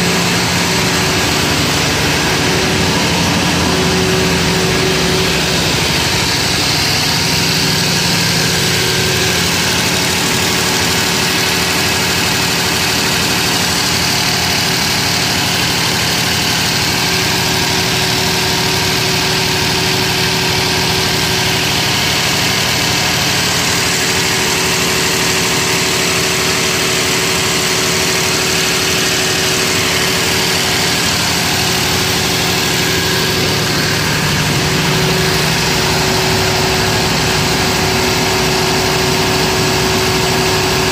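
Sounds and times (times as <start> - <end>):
diesel generator droning: 0.0 - 40.9.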